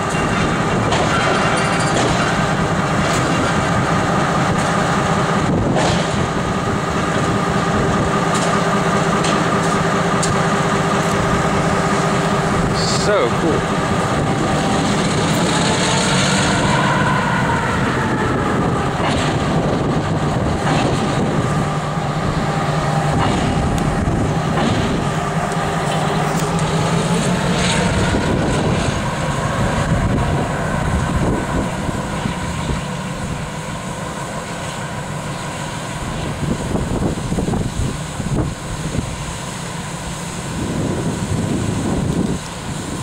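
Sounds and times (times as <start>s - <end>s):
diesel locomotive engine droning: 0.0s - 43.0s.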